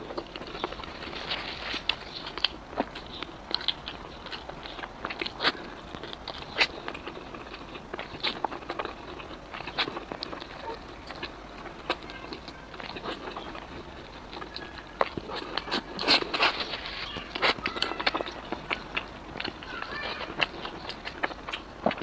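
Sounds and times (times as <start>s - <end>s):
wet chewing and slurping noodles: 0.0s - 22.0s.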